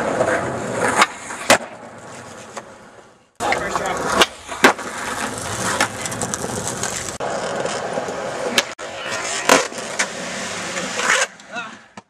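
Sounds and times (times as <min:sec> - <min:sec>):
skateboard clacks: 0:00.0 - 0:02.8, 0:03.4 - 0:12.0
skateboard wheels rolling on concrete: 0:00.0 - 0:12.0.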